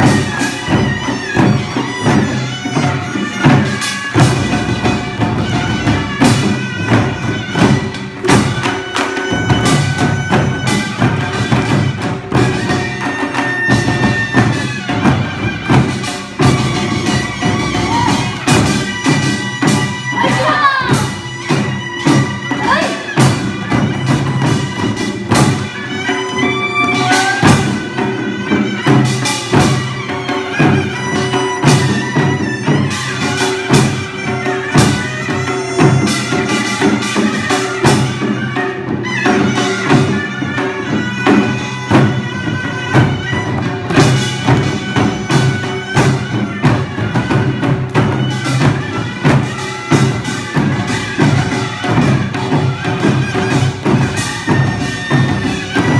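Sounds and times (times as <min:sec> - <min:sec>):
percussion strikes: 0:00.0 - 0:55.9
reedy wind instrument: 0:00.0 - 0:55.9.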